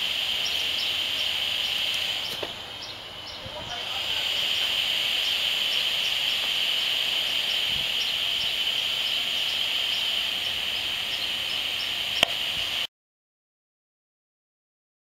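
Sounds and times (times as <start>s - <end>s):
faint regular ticks: 0.0s - 12.9s
loudspeaker hiss: 0.0s - 12.9s.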